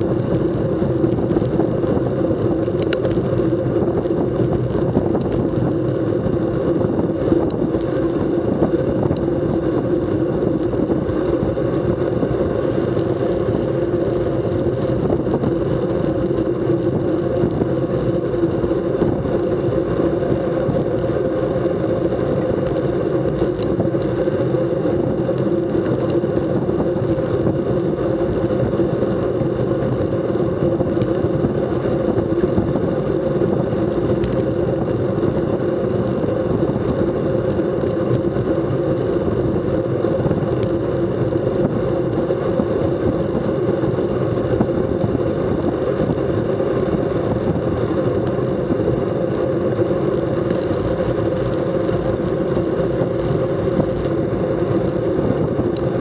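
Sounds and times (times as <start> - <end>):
tyre hum on asphalt: 0.0 - 56.0
wind buffeting microphone: 0.0 - 56.0.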